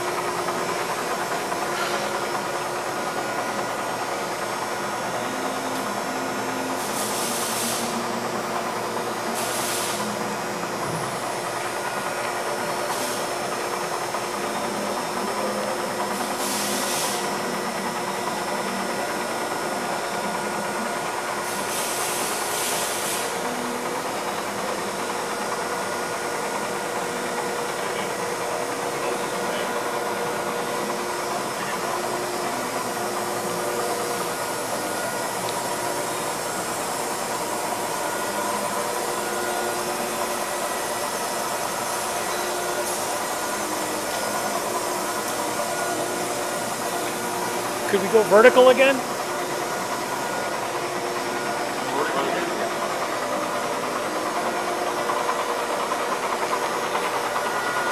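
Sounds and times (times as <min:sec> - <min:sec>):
boring mill humming and whining: 0:00.0 - 0:57.9.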